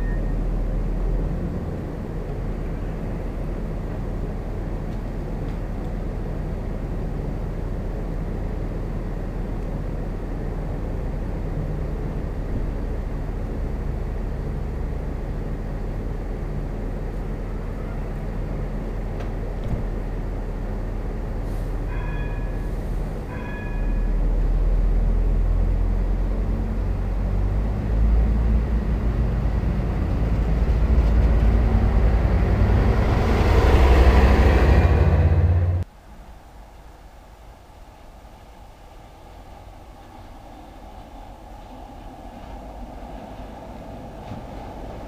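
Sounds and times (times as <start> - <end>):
diesel train engines idling: 0.0 - 45.0.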